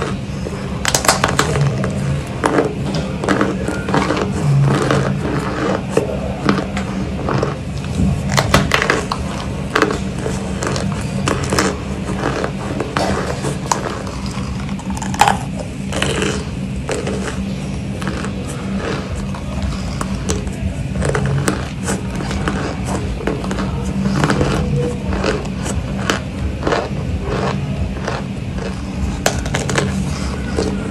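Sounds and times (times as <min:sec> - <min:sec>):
crunchy chewing: 0:00.0 - 0:30.9
low hum: 0:00.0 - 0:30.9.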